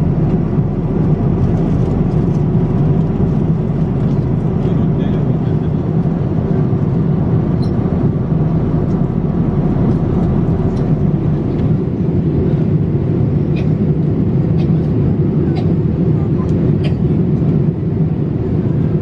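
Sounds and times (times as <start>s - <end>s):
airplane cabin noise: 0.0s - 19.0s.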